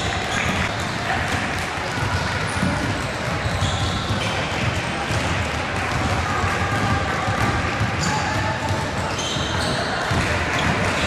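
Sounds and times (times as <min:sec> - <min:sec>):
basketballs bouncing on hardwood floor: 0:00.3 - 0:11.0.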